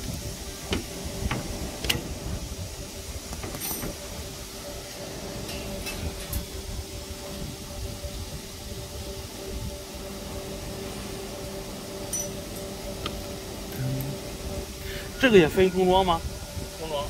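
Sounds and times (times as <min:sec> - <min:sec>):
electric motors humming: 0:00.0 - 0:17.0.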